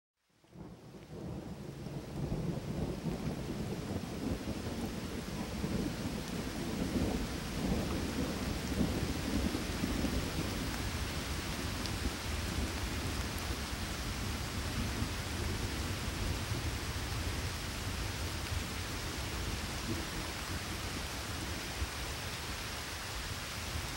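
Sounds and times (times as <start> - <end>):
rolling thunder rumble: 0.6 - 22.6
rain hissing: 0.6 - 23.9.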